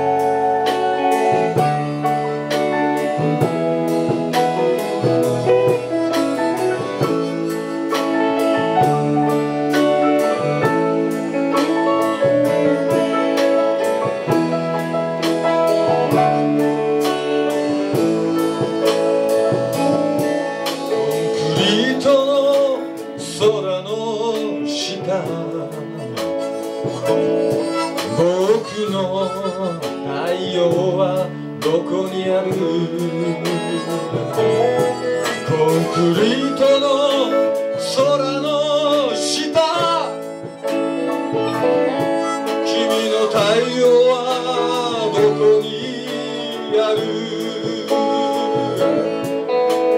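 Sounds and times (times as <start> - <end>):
blues harmonica: 0.0 - 49.9
drums keeping a beat: 0.0 - 49.9
electric guitars: 0.0 - 49.9.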